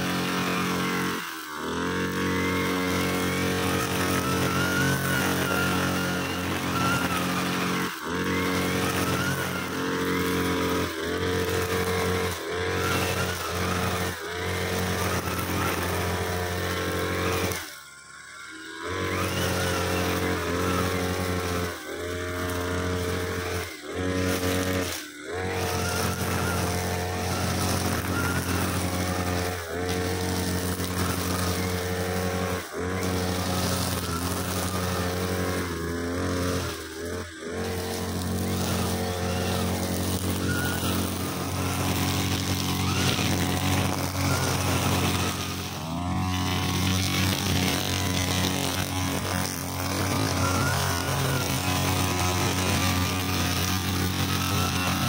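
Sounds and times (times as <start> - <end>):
brushcutter engine running: 0.0 - 55.0.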